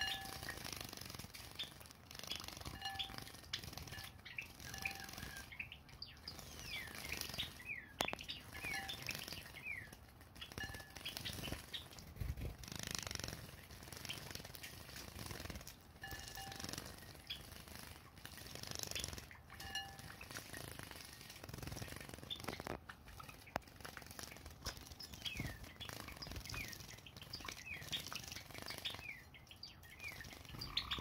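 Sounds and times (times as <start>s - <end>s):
bird chirps: 0.0s - 17.7s, 18.6s - 31.0s
wings fluttering and splashing water: 0.0s - 31.0s.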